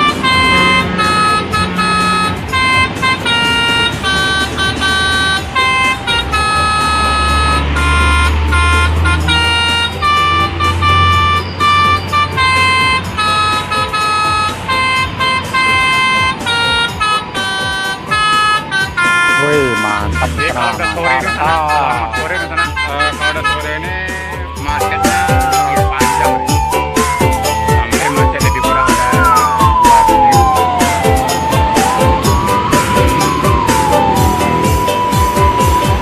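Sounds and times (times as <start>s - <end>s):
multi-tone air horn melody: 0.0s - 36.0s.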